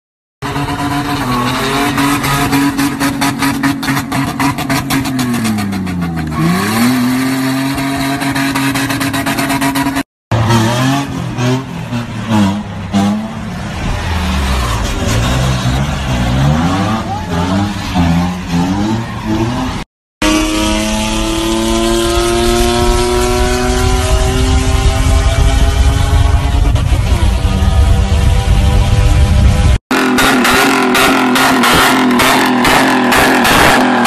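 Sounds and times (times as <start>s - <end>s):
car engine revving hard: 0.4s - 34.0s.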